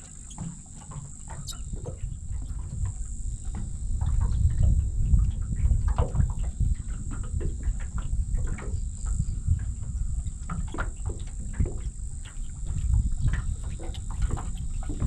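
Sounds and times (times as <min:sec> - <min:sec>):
water lapping against boat hull: 0:00.0 - 0:15.0
wind buffeting microphone: 0:00.0 - 0:15.0.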